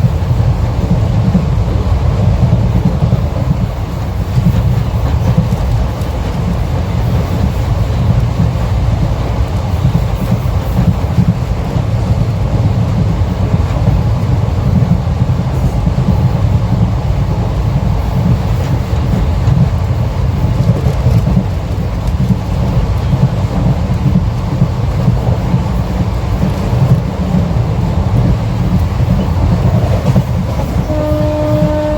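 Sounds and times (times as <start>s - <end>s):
train rumbling at speed: 0.0s - 31.9s.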